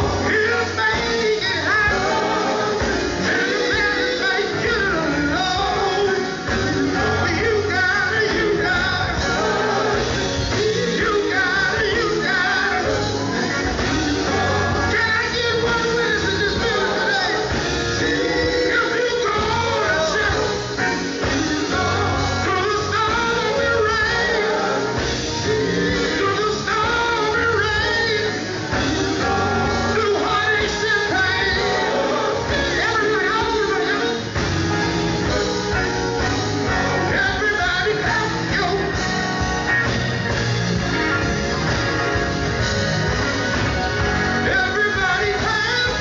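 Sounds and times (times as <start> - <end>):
band playing: 0.0 - 46.0
male vocal group singing gospel: 0.0 - 46.0.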